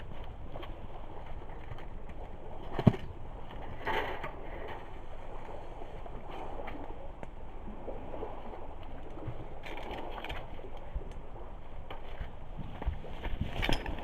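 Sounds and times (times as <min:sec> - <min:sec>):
water lapping at shore: 0:00.0 - 0:14.0.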